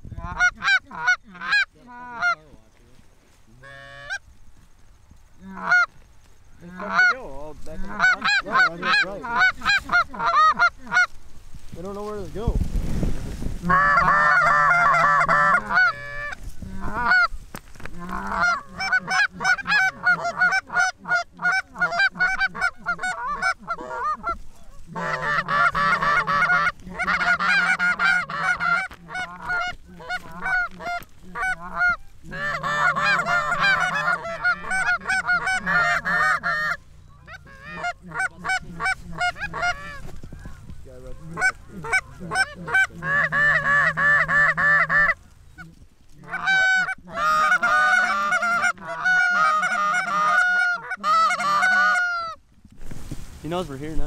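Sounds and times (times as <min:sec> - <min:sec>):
geese honking and clucking: 0:00.0 - 0:54.0.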